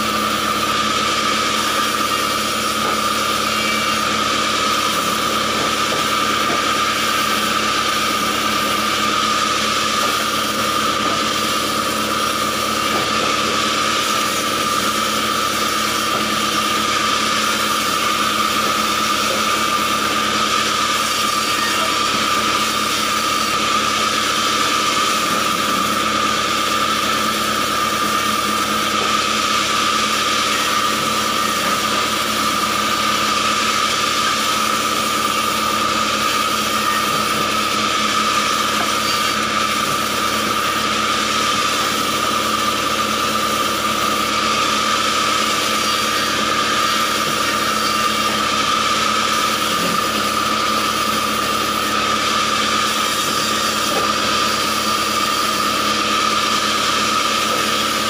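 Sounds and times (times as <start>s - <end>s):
band saw whining: 0.0s - 58.0s.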